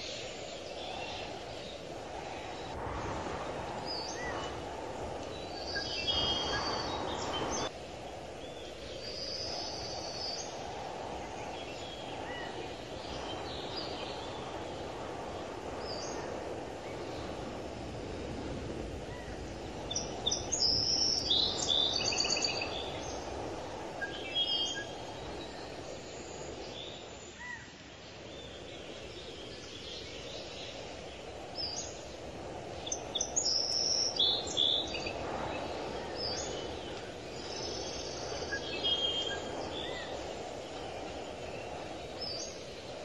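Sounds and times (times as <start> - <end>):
small birds chirping: 0.0 - 7.7, 8.3 - 43.0.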